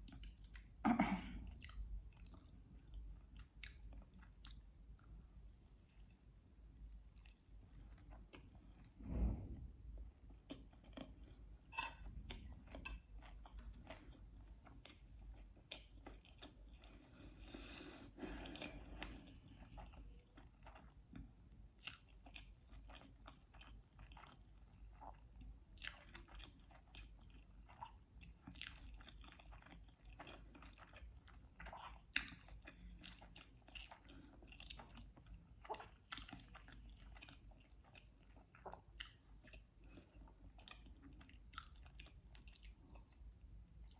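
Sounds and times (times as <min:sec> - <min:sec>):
person chewing food: 0:00.0 - 0:00.8, 0:01.4 - 0:09.0, 0:10.2 - 0:43.9.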